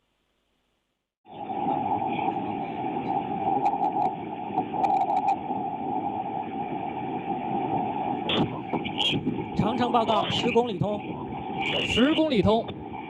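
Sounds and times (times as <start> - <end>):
constant hum-like tone: 1.3 - 13.0
radio static rushing noise: 1.3 - 13.0.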